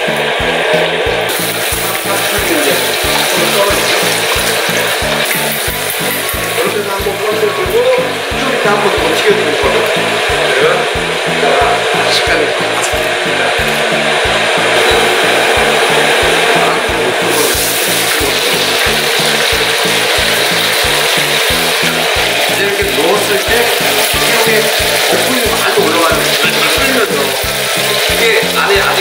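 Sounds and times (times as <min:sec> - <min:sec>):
background music with beat: 0:00.0 - 0:29.0
deep-frying sizzle: 0:00.0 - 0:29.0.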